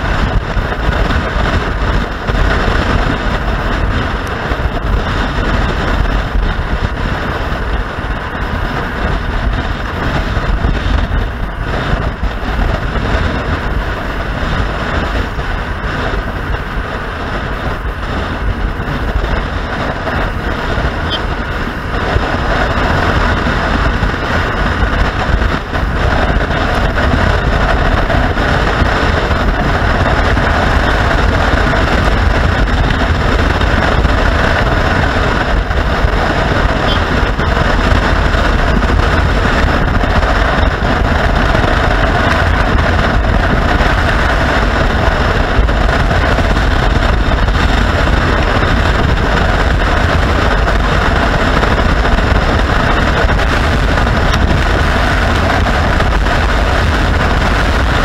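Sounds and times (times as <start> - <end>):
motorcycle engine: 0.0 - 58.0
wind buffeting microphone: 0.0 - 58.0.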